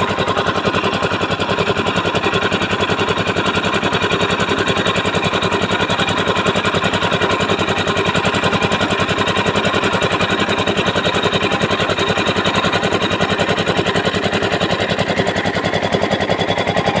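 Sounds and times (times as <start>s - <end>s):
drilling rig engine pulsing: 0.0s - 17.0s.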